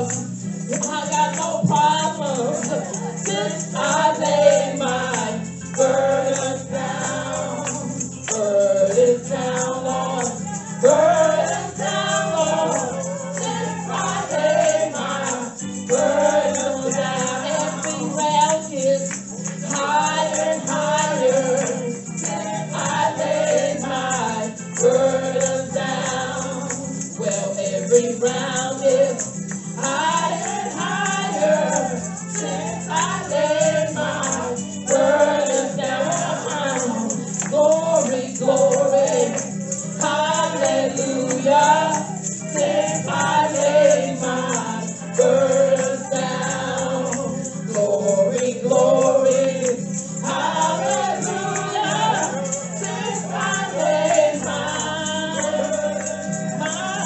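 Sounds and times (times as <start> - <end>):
people singing along: 0.0 - 57.0
tambourine shaken: 0.0 - 57.0
woman singing into microphone: 0.0 - 57.0.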